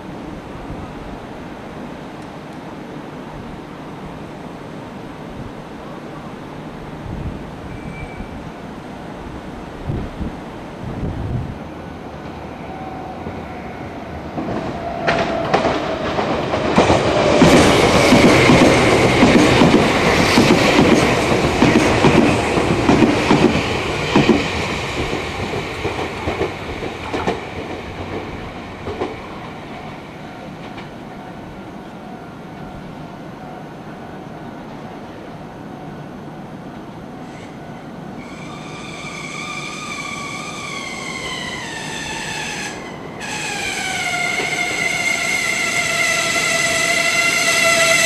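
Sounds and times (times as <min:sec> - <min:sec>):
high train whine: 0:00.0 - 0:48.0.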